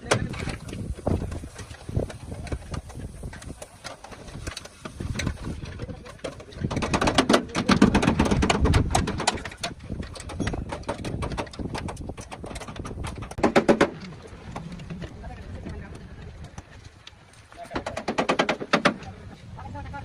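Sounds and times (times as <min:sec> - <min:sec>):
clicks and knocks: 0:00.0 - 0:19.1.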